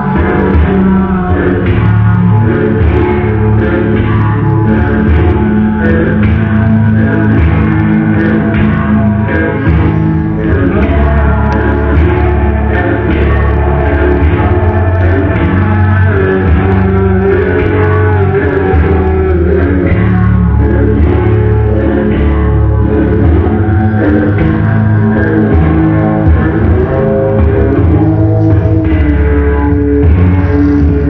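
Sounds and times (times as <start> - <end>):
loud rock music: 0.0 - 31.0.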